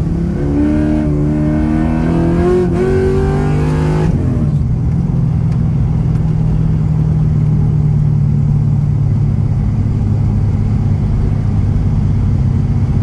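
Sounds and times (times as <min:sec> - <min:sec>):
car exhaust drone: 0:00.0 - 0:13.0
road noise: 0:00.0 - 0:13.0.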